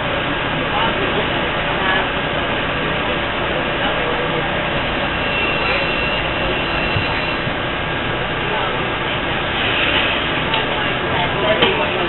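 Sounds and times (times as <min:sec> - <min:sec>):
train interior rumble and hum: 0:00.0 - 0:12.0.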